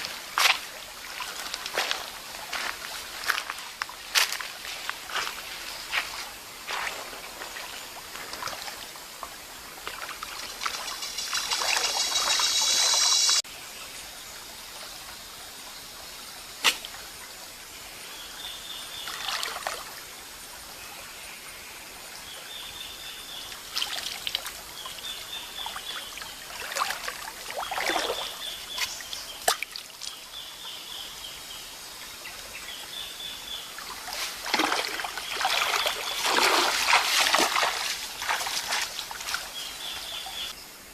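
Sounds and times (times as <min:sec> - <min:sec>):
stream water splashing: 0:00.0 - 0:13.4, 0:16.4 - 0:17.7, 0:18.4 - 0:20.6, 0:22.3 - 0:40.6.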